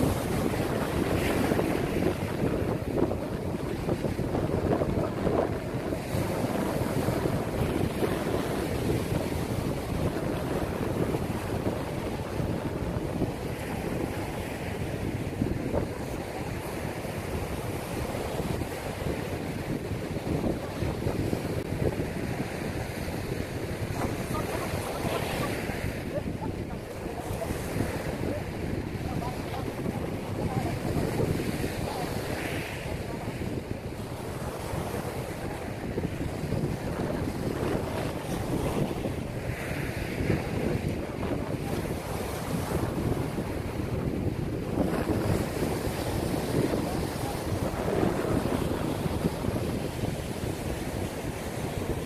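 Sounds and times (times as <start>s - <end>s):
surf breaking on beach: 0.0s - 52.0s
wind buffeting microphone: 0.0s - 52.0s.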